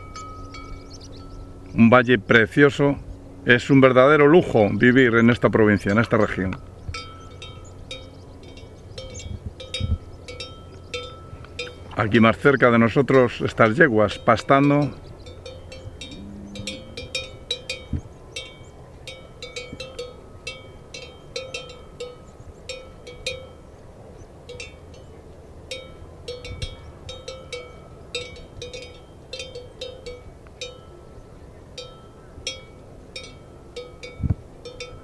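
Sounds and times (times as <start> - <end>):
livestock bells clanking: 0.0 - 1.6, 4.4 - 23.7, 24.5 - 35.0.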